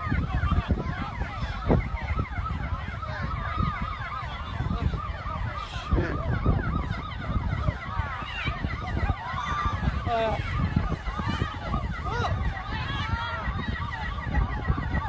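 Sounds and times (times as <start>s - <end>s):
emergency sirens wailing: 0.0s - 15.0s.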